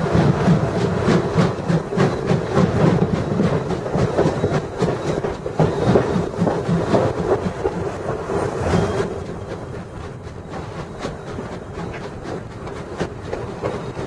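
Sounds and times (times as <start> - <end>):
steam locomotive exhaust beats: 0.0 - 14.0
wheels rumbling on track: 0.0 - 14.0.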